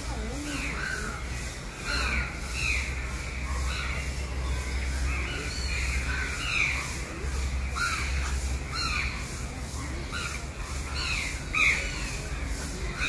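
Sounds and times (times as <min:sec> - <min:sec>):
birds making harsh calls: 0:00.0 - 0:13.0.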